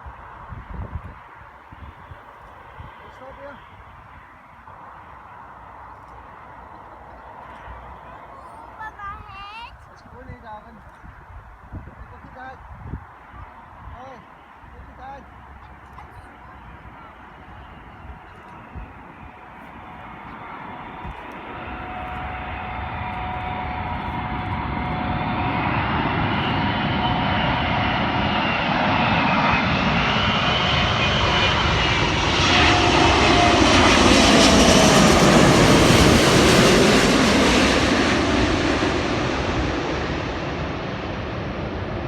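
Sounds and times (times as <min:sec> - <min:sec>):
jet engines of landing airliner: 0:00.0 - 0:42.0.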